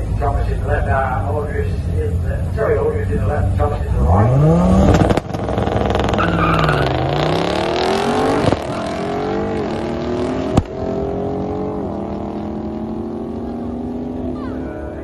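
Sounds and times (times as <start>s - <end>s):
car engines at full throttle: 0.0s - 15.0s.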